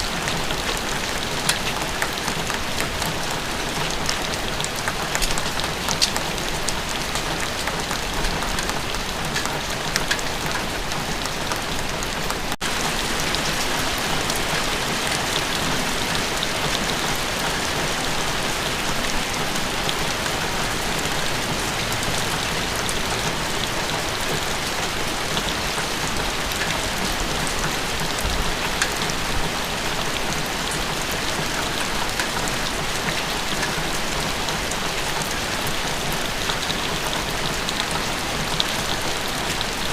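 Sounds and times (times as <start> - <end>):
raindrop ticks: 0.0 - 39.8
steady rain hiss: 0.0 - 39.9.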